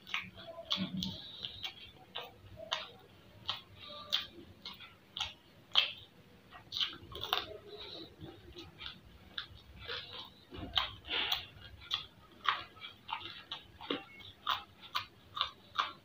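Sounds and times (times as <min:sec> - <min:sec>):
chewing and lip smacking: 0:00.0 - 0:16.0.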